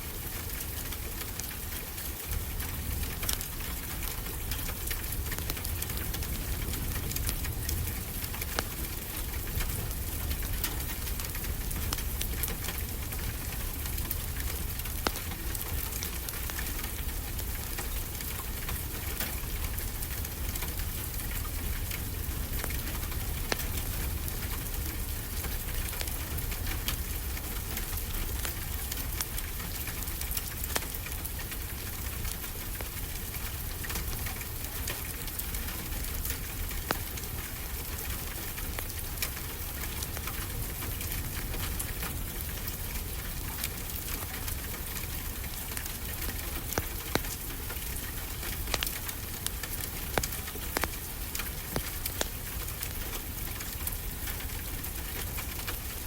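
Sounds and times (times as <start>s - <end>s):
wood fire crackling and popping: 0.1s - 56.0s.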